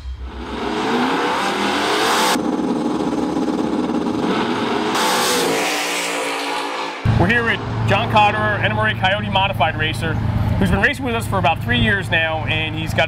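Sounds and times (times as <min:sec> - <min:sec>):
car engine accelerating hard: 0:00.2 - 0:13.0.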